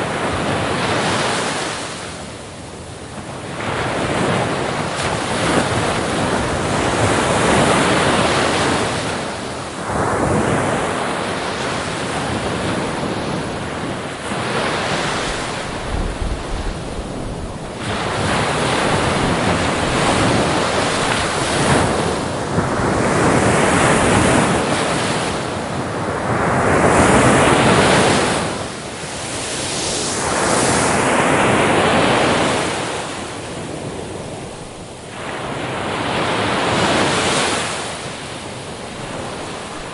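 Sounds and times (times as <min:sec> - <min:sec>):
sea waves breaking on shore: 0:00.0 - 0:39.9
wind noise on microphone: 0:00.0 - 0:39.9.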